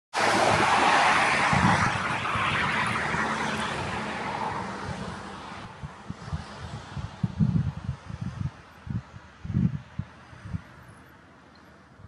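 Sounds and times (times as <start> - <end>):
passing vehicle rushing: 0.2 - 11.1
wind rumble on microphone: 0.2 - 11.2.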